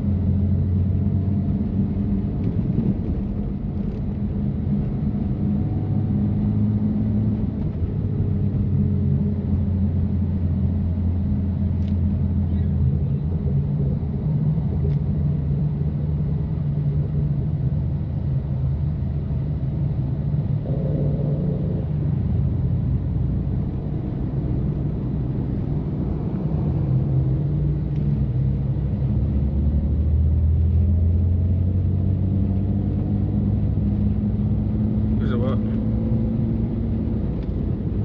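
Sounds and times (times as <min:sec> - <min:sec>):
car engine droning at cruise: 0:00.0 - 0:38.0.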